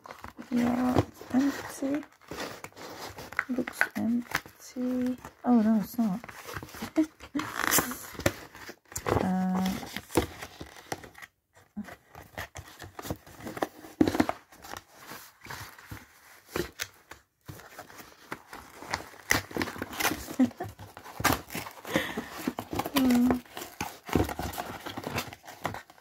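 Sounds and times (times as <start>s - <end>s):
cardboard and plastic wrap rustling: 0.0s - 26.0s.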